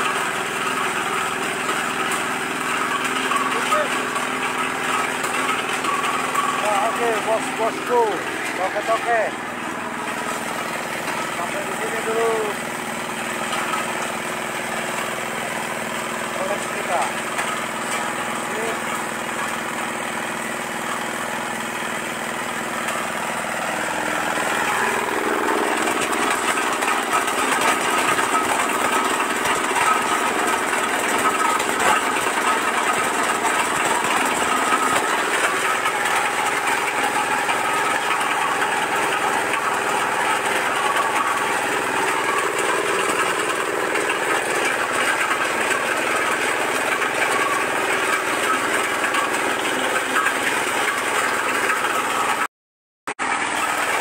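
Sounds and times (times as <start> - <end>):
small engine running: 0.0 - 52.5, 53.2 - 54.0.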